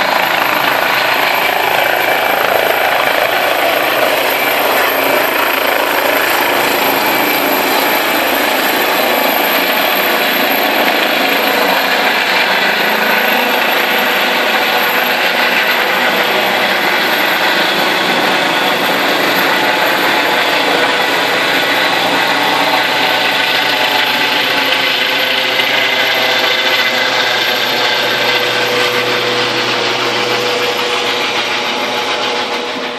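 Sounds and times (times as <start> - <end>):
helicopter rotor and engines: 0.0 - 32.9
turbine whine: 0.0 - 32.9.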